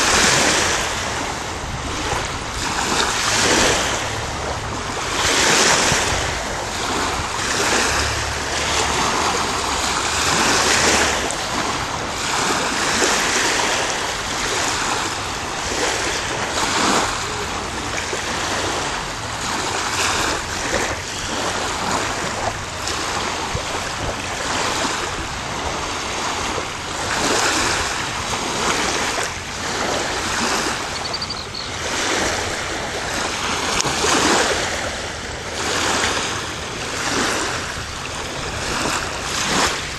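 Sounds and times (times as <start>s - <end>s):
lake waves washing against shore: 0.0s - 39.9s
wind blowing across microphone: 0.0s - 39.9s.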